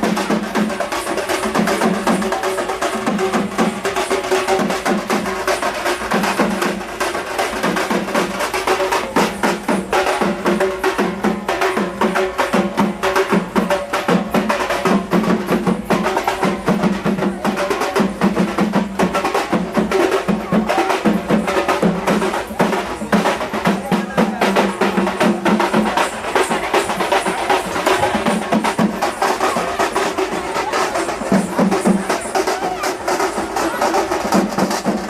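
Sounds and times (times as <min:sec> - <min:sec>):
loud fast drumming: 0:00.0 - 0:35.0.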